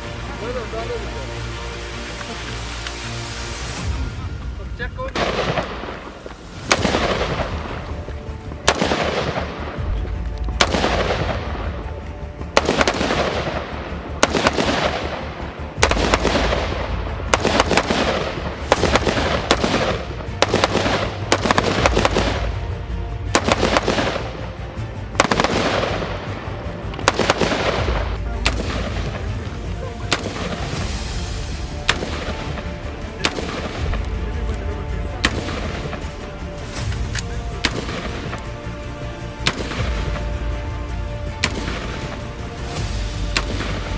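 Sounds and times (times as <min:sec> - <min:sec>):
rifle shots echoing: 0:00.0 - 0:43.9.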